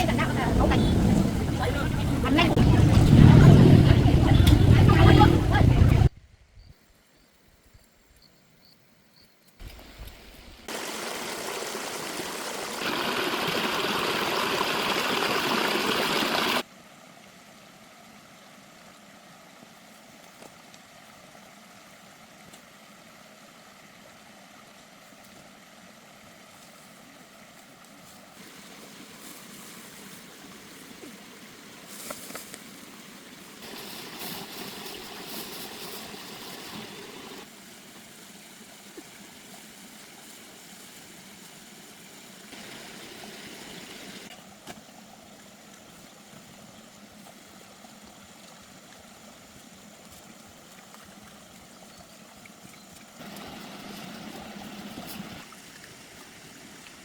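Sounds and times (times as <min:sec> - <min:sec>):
stream water rushing: 0:00.0 - 0:06.1, 0:10.6 - 0:57.0.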